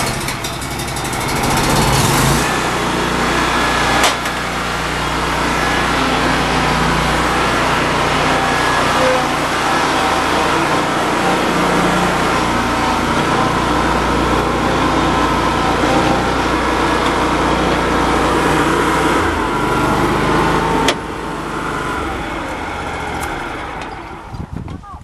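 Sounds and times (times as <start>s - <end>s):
riding lawn mower engine running: 0.0s - 25.0s.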